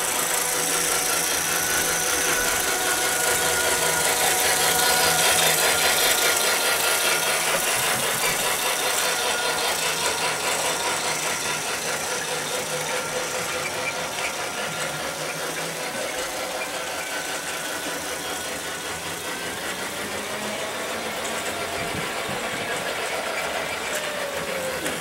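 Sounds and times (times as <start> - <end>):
toy train motor whirring: 0.0 - 25.0
toy train wheels rattling: 0.0 - 25.0.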